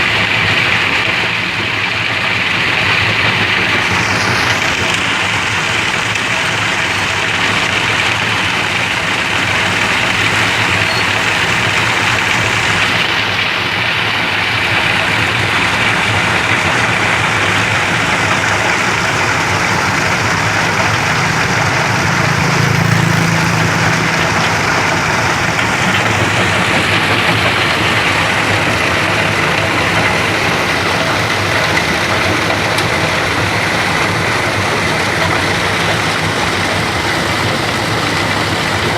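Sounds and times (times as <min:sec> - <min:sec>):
low engine hum: 0:00.0 - 0:38.9
grinding machine rushing noise: 0:01.9 - 0:38.9.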